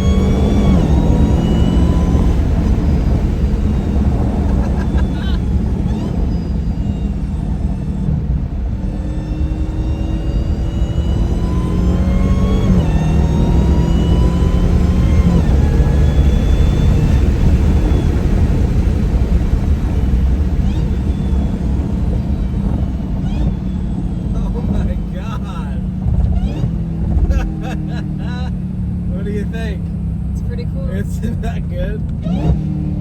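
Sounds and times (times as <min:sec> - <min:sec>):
car engine accelerating hard: 0:00.0 - 0:33.0
supercharger whine: 0:00.0 - 0:33.0.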